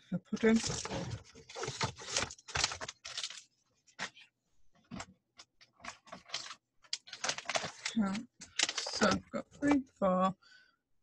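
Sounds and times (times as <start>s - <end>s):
paper and card rustling: 0.4s - 4.3s, 4.9s - 9.8s.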